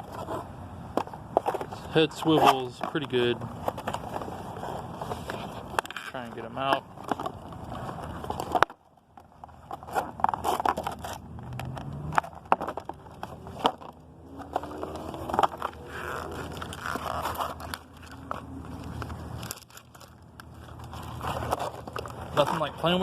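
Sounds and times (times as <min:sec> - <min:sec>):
toy packaging scraping and crackling: 0:00.0 - 0:23.0.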